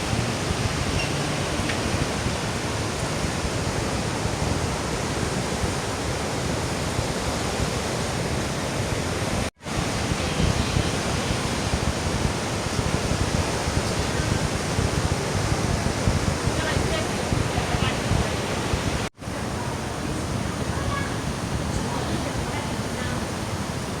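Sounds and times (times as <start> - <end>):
falling water rushing: 0.0 - 24.0.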